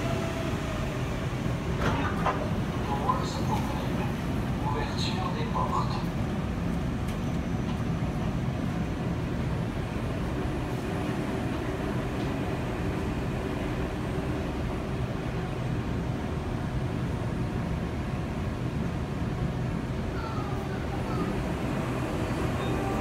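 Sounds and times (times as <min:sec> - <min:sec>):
train humming and rumbling: 0:00.0 - 0:23.0.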